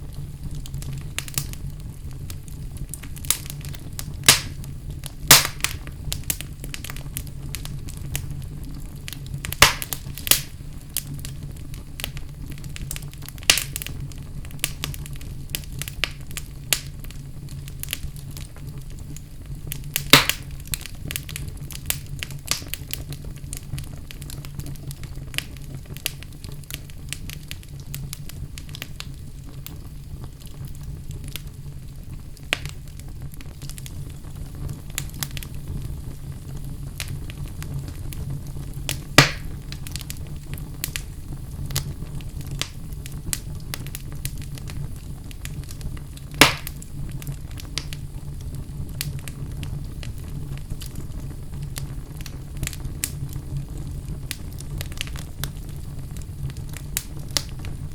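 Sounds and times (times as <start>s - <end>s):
fire flames rumbling and crackling: 0.0s - 57.9s
loud fire pops: 0.0s - 57.9s.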